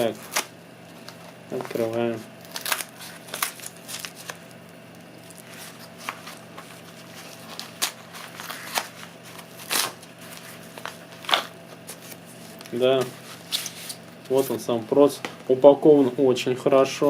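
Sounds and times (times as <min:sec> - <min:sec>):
packaging crinkling and rustling: 0:00.0 - 0:14.7.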